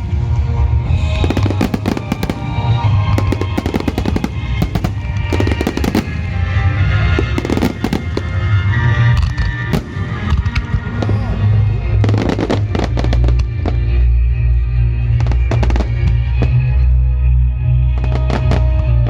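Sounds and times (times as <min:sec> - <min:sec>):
fireworks bursting and crackling: 0:00.0 - 0:16.9, 0:17.9 - 0:19.0
music playing: 0:00.0 - 0:19.0.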